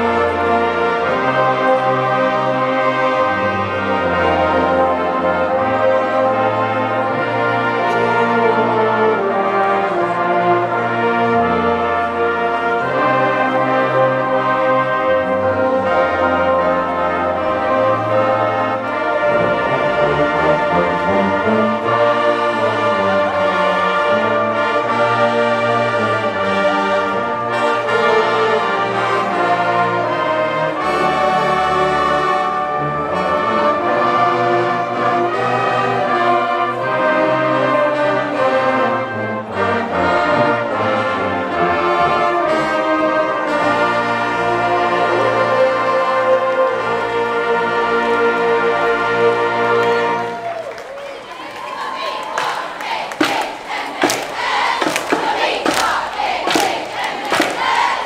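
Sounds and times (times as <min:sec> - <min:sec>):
brass-heavy school band playing: 0:00.0 - 0:58.0.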